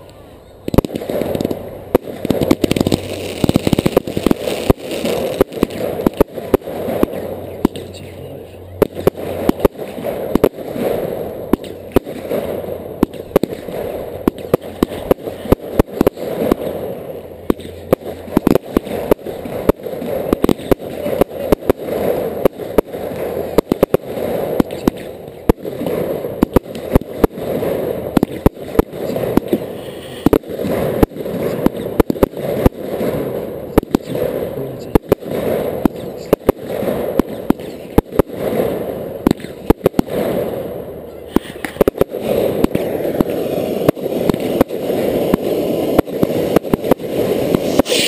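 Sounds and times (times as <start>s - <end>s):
noisy background: 0.0s - 48.0s
firework shells bursting: 0.7s - 48.0s.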